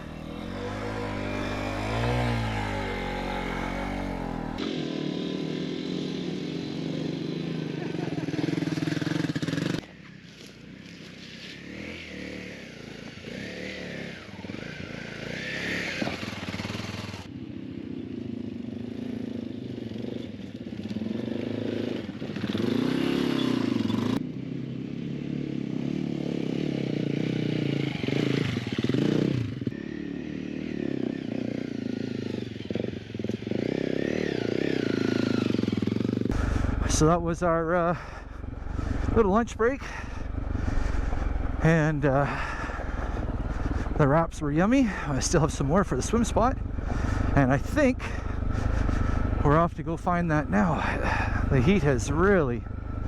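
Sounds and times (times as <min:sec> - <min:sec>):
motorcycle engines revving: 0:00.0 - 0:53.0.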